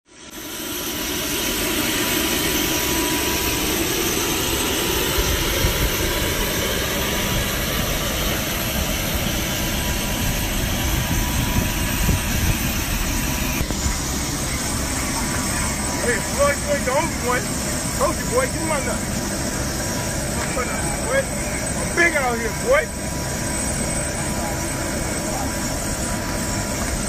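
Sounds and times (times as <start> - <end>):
thin high whine: 0.1 - 27.0
jet engine cabin rush: 0.3 - 27.0.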